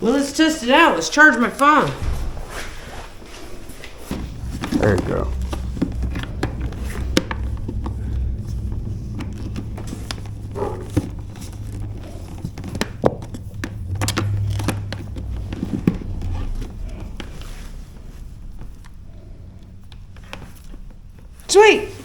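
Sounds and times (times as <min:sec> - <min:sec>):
handling clicks and rustles: 0:01.6 - 0:21.6
low steady rumble: 0:01.9 - 0:22.0.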